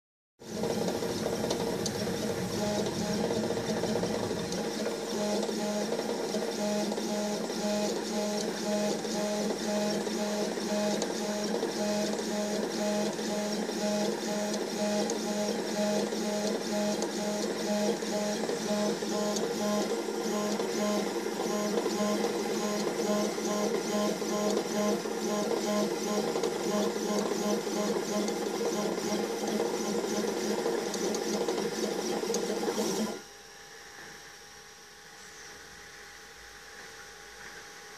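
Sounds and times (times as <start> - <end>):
stepper motors pulsing whine: 0.4 - 34.8.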